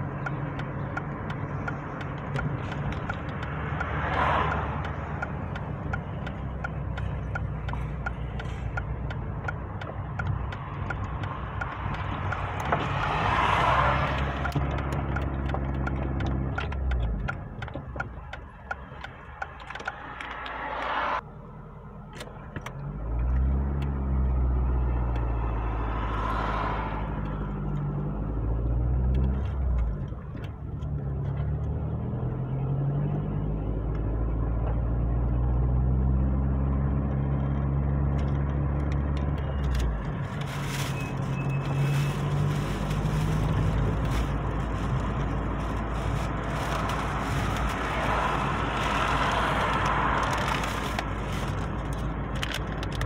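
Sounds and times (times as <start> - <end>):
vehicle engine accelerating: 0.0 - 21.5, 22.1 - 53.0
road and wind noise: 0.0 - 53.0.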